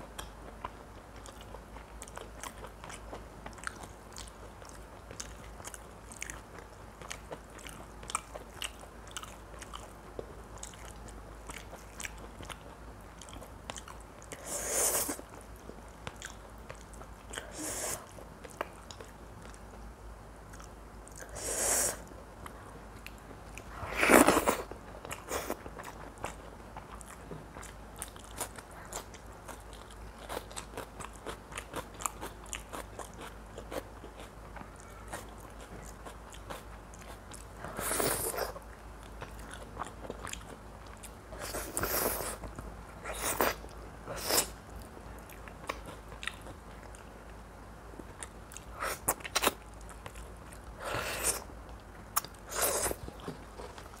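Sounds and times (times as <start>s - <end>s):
chewing with wet mouth clicks: 0.1s - 19.9s, 20.5s - 21.3s, 22.4s - 47.4s, 48.0s - 54.0s.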